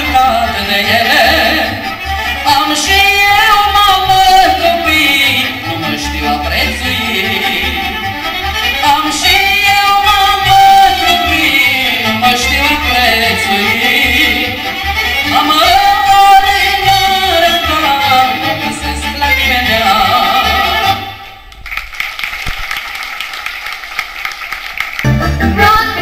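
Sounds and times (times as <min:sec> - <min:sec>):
folk band music: 0:00.0 - 0:21.5, 0:25.0 - 0:26.0.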